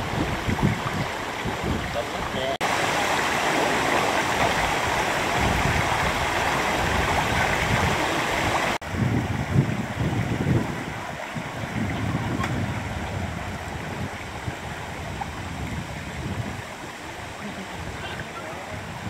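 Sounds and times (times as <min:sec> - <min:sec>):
floodwater rushing: 0:00.0 - 0:19.0
uneven rumble of moving water: 0:00.0 - 0:19.0.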